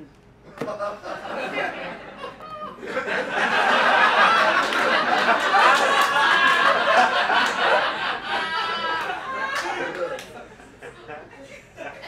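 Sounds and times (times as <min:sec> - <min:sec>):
audience laughing: 0:00.7 - 0:12.0.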